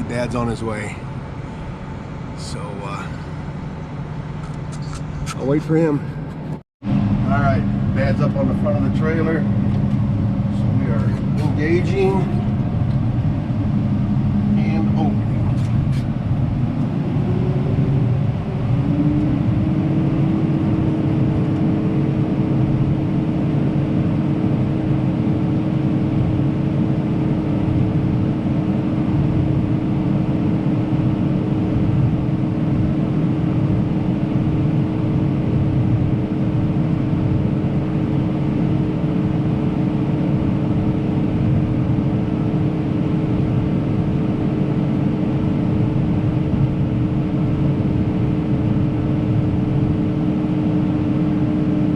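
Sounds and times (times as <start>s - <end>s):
tractor engine drone: 0.0s - 51.9s.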